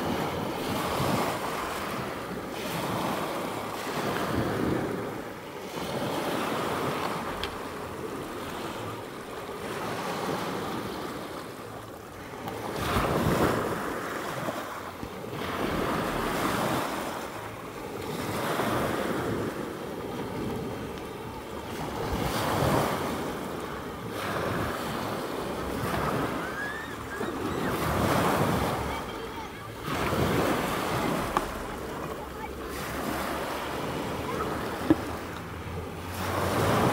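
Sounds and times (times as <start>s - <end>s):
surf washing onto beach: 0.0s - 36.9s.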